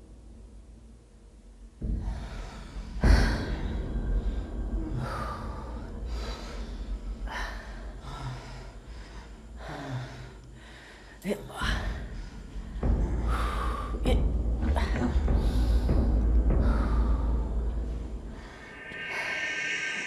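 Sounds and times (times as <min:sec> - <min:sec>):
person breathing heavily: 0:01.8 - 0:20.0.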